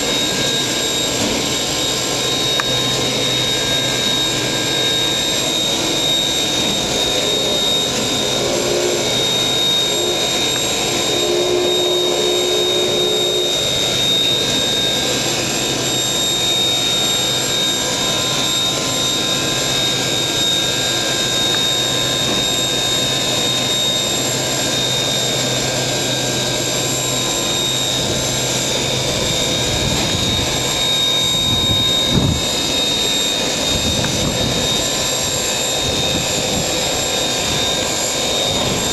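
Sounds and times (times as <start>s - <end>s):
high whine: 0.0s - 38.9s
steam locomotive hissing: 0.0s - 38.9s.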